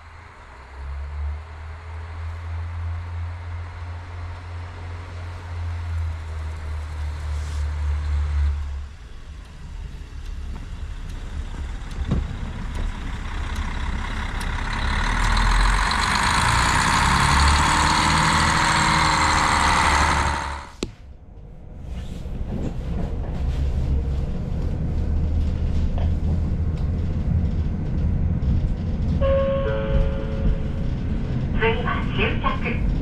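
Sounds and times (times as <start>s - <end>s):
diesel railcar engine hum: 0.0s - 33.0s
train rushing and rumbling: 0.0s - 33.0s.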